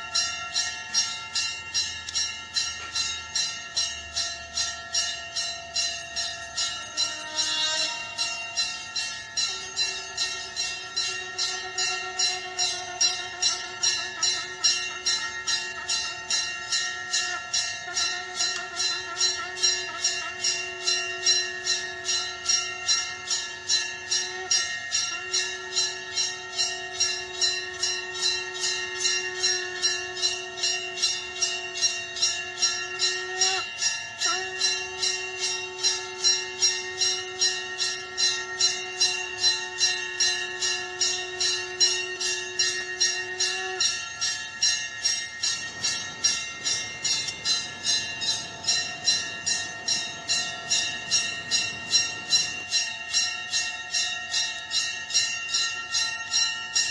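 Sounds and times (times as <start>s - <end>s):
hand bell rung rapidly: 0.0s - 56.9s
conch shell blowing long notes: 6.5s - 54.1s.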